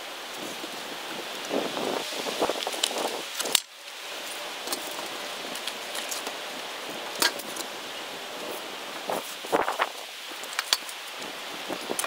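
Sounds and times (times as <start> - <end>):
wind rustling: 0.0 - 12.0.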